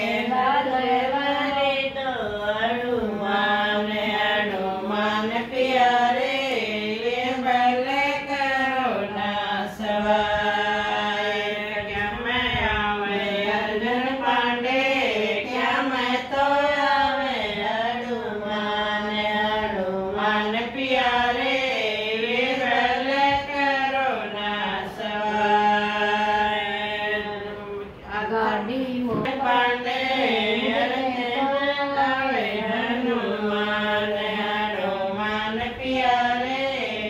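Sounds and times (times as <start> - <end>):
women singing unaccompanied: 0.0 - 37.0.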